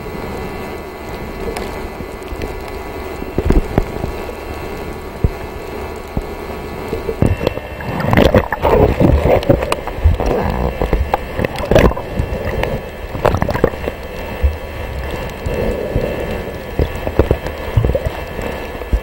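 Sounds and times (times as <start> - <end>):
churning water and bubbles: 0.0 - 19.0
steady underwater hiss: 0.0 - 19.0.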